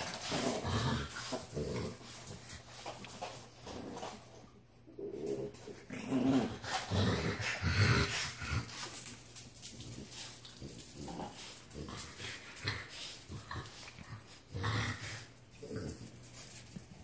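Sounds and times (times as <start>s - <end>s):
puppies playing and scuffling: 0.0s - 17.0s.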